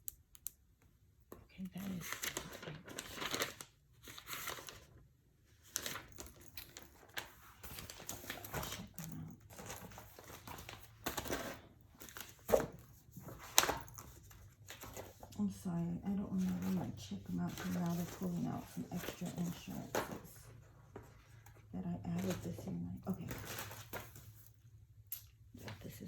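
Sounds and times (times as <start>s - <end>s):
paper rustling and crinkling: 1.8s - 24.8s.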